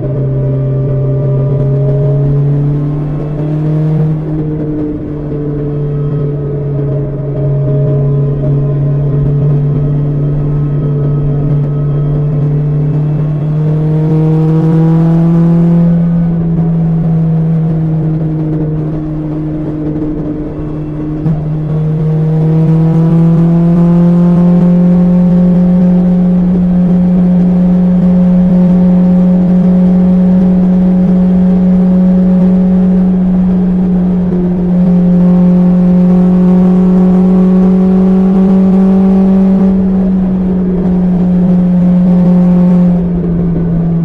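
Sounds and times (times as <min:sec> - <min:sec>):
motorcycle engine while riding: 0:00.0 - 0:44.0.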